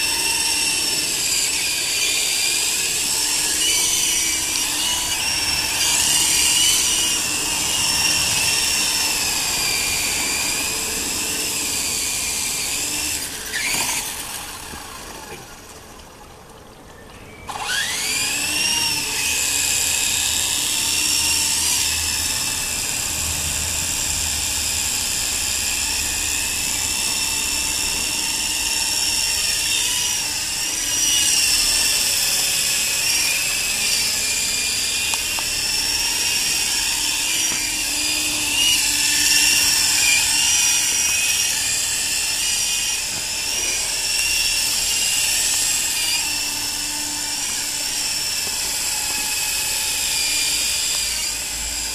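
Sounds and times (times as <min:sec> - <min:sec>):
toy helicopter motor whine: 0:00.0 - 0:51.9.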